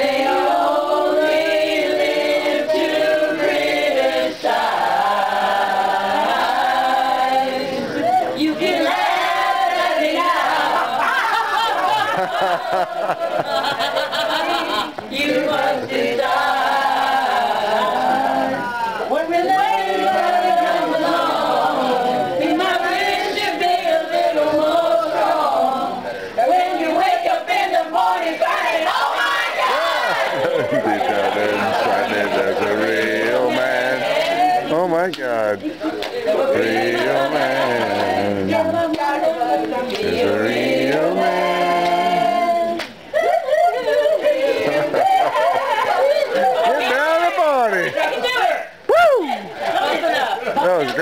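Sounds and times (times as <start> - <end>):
group of people singing: 0.0 - 48.5.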